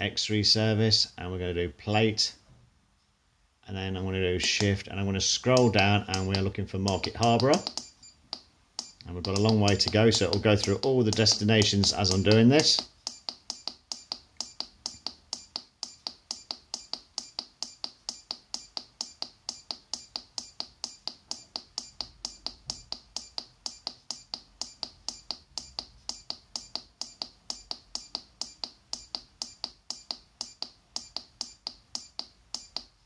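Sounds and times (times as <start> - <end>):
keypad controller ticking quickly: 5.4 - 33.0.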